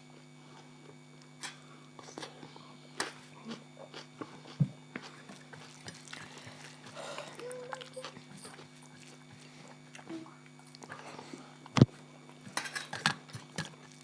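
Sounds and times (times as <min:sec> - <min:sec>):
steady low hum: 0:00.0 - 0:14.0
people eating from plates: 0:01.5 - 0:14.0.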